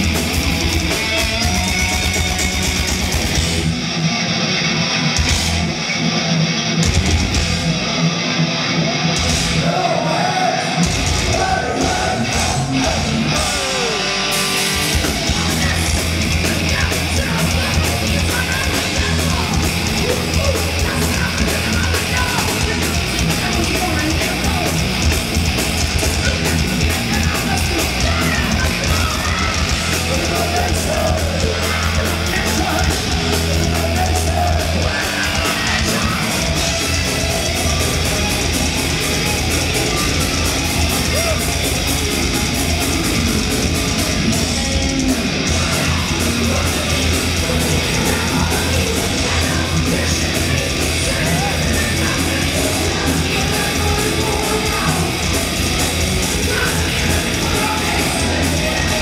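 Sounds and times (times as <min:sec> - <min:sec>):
fast drumming: 0:00.0 - 0:03.8, 0:10.7 - 0:59.0
live metal band playing: 0:00.0 - 0:59.0.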